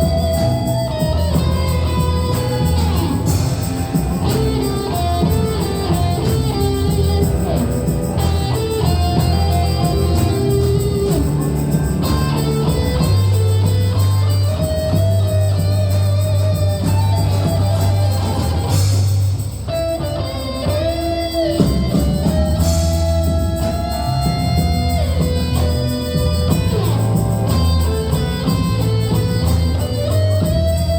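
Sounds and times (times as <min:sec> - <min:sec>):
live instrumental band: 0:00.0 - 0:30.9.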